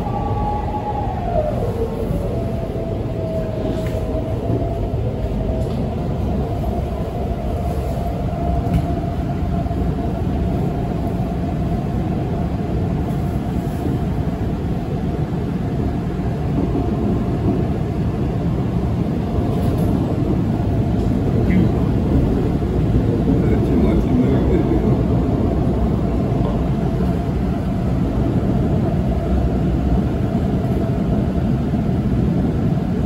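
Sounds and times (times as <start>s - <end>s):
train low rumble: 0.0s - 33.0s
train whine: 0.0s - 33.0s.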